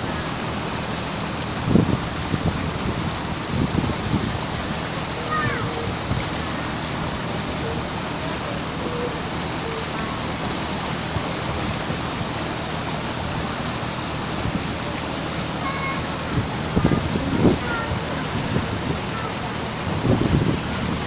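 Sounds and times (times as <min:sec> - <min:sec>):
boat engine humming: 0:00.0 - 0:21.0
water and wind rushing: 0:00.0 - 0:21.0.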